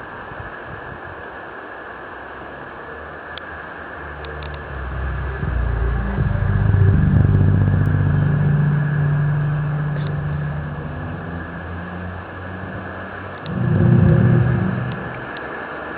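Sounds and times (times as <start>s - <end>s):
low droning hum: 2.4s - 15.9s.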